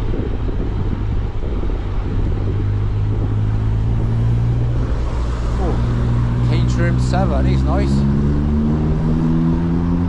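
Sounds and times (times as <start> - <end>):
traffic engine hum: 0.0 - 10.0
wind and road noise: 0.0 - 10.0.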